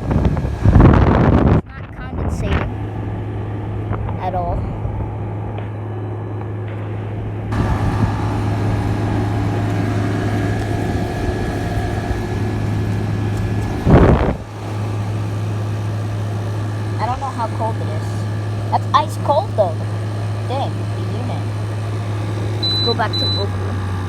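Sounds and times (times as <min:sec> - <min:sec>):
air conditioner compressor humming: 0:00.0 - 0:24.0
fan airflow: 0:00.0 - 0:24.0.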